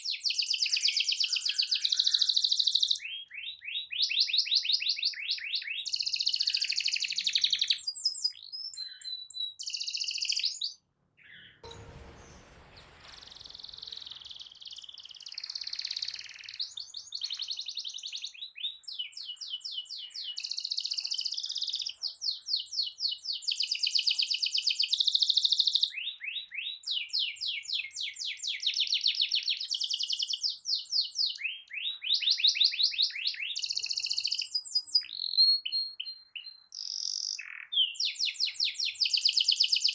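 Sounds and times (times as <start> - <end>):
canary singing trills: 0.0 - 11.7, 12.8 - 39.9.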